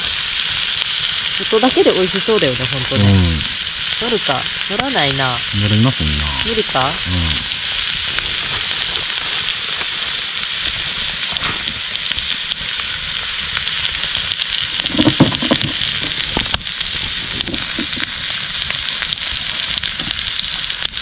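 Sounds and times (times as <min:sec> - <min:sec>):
sharp crackles: 0:00.0 - 0:21.0
skewers sizzling in oil: 0:00.0 - 0:21.0.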